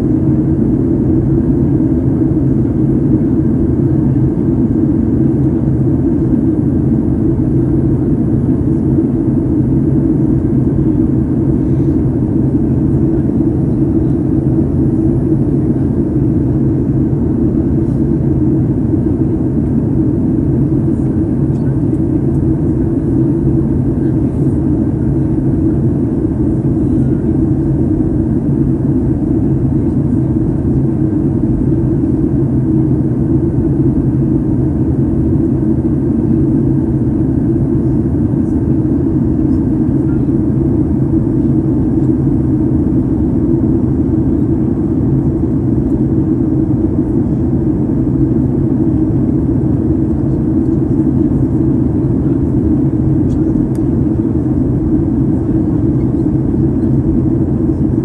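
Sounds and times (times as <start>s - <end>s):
jet cabin engine rumble: 0.0s - 58.0s.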